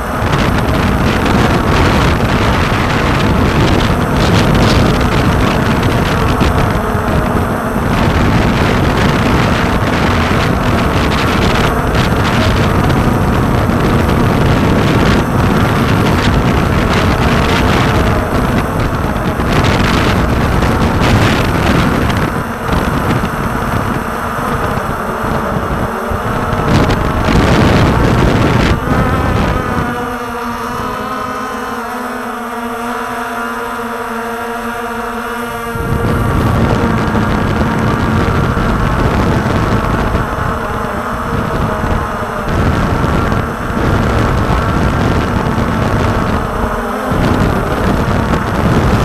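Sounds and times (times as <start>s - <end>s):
drone propellers buzzing: 0.0s - 49.0s
wind buffeting microphone: 0.0s - 49.0s.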